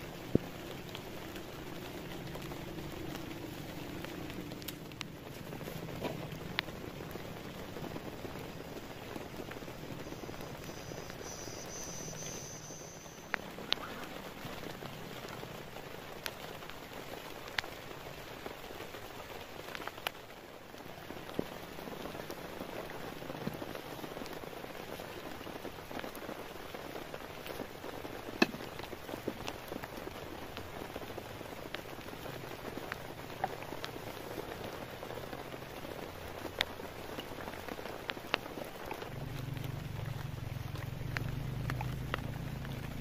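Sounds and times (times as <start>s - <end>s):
rain on vegetation and tarp: 0.0s - 43.0s.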